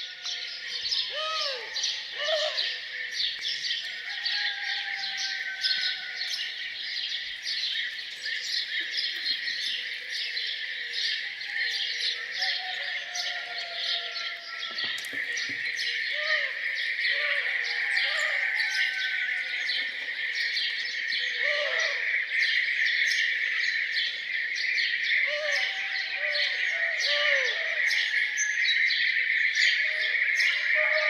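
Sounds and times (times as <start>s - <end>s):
birds chirping and singing: 0.0s - 31.0s.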